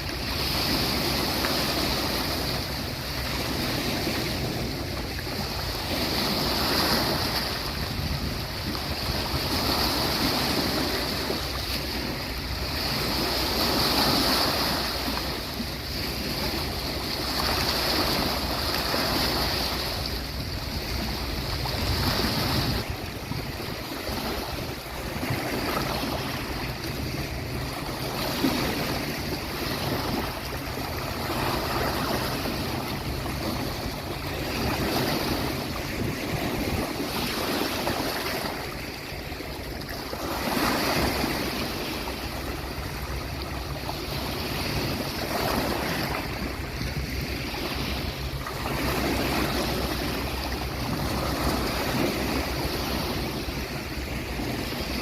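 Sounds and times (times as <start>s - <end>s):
sea waves washing on beach: 0.0s - 55.0s.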